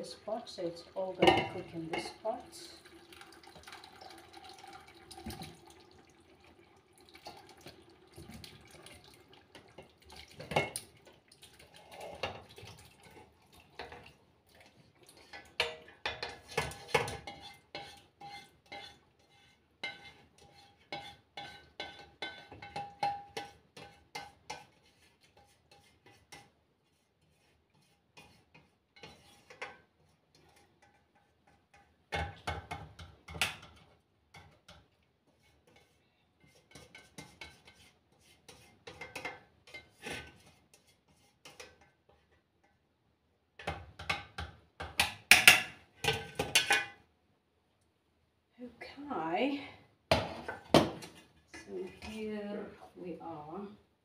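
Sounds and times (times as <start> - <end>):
steel pots clinking and scraping: 0.0 - 26.5, 27.4 - 34.8, 35.4 - 42.4, 45.0 - 47.1, 50.3 - 53.6.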